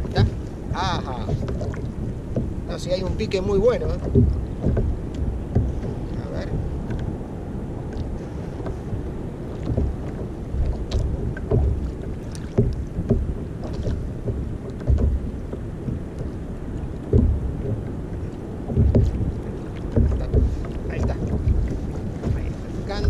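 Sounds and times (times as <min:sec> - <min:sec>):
low thumps: 0:00.0 - 0:23.0
water lapping against kayak hull: 0:00.0 - 0:23.0
wind rumbling on microphone: 0:00.0 - 0:23.0.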